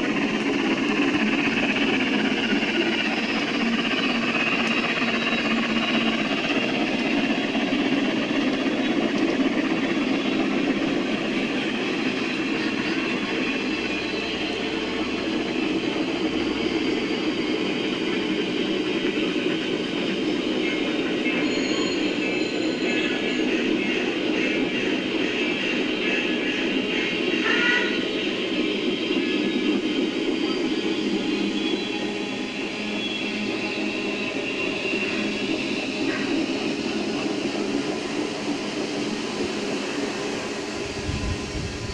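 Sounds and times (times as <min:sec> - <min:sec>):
model steam locomotive running: 0:00.0 - 0:41.9.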